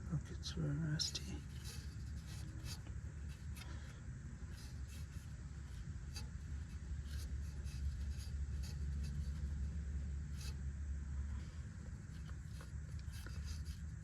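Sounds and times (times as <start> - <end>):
steady low hum: 0.0 - 14.0
wipe scraping in metal hole: 1.2 - 10.6, 11.8 - 14.0.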